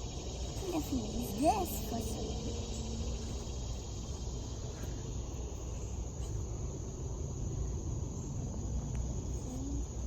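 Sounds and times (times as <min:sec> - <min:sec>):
high-pitched insect drone: 0:00.0 - 0:10.0
low steady rumble: 0:00.0 - 0:10.0.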